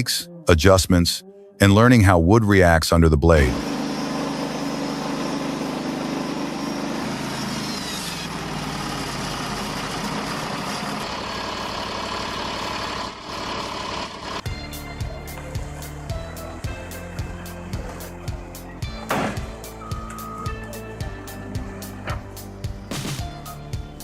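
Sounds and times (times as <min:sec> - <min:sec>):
machine engine running: 0:03.4 - 0:23.3.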